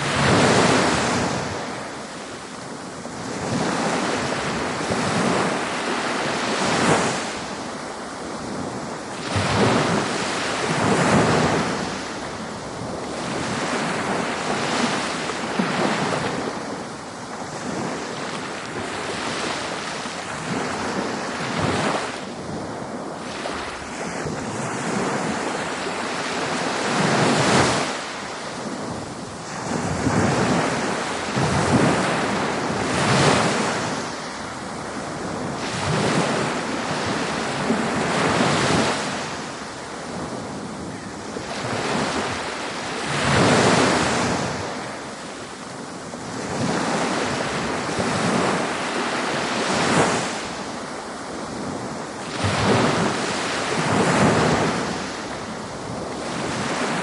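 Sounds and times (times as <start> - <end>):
ocean waves breaking: 0.0 - 57.0
wind noise on microphone: 0.0 - 57.0.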